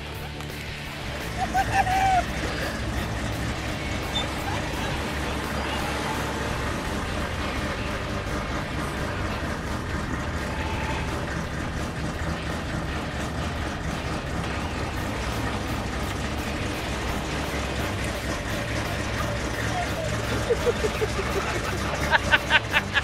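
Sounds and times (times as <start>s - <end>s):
golf cart engine running: 0.0s - 23.0s.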